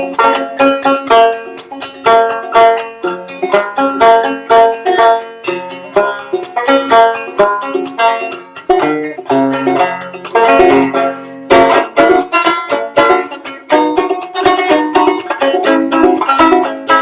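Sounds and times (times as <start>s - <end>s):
banjo plucked notes: 0.0s - 17.0s.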